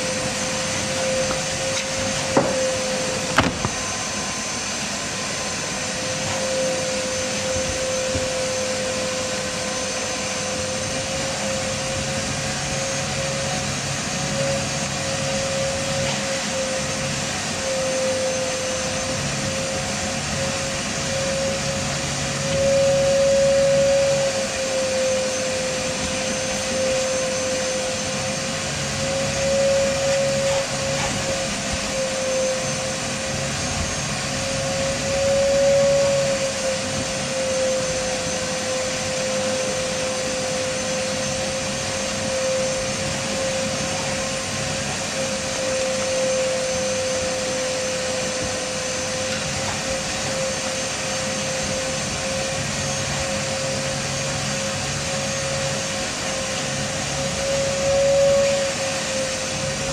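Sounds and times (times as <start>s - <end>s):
machine whine: 0.0s - 59.9s.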